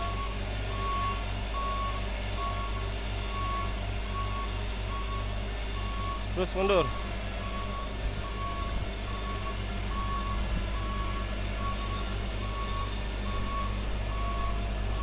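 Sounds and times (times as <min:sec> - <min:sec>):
truck engine droning: 0:00.0 - 0:15.0
truck reversing alarm beeping: 0:00.0 - 0:15.0.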